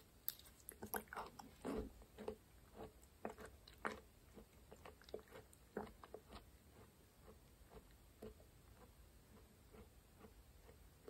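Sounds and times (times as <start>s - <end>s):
wet chewing squishes: 0.3s - 10.8s.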